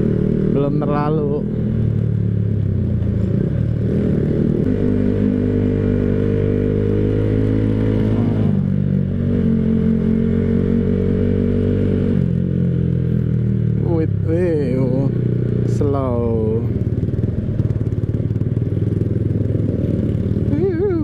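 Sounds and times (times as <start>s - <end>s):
motorcycle engine hum: 0.0s - 21.0s.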